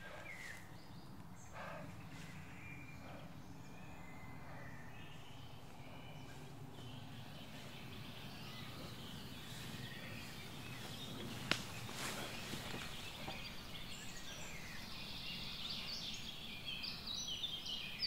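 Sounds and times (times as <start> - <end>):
faint bird chirps: 0.0 - 18.0
low woodland rumble: 0.0 - 18.0.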